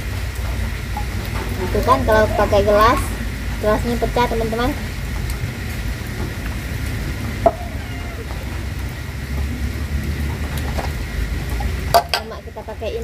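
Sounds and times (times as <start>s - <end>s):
dishwashing water hiss: 0.0s - 13.0s.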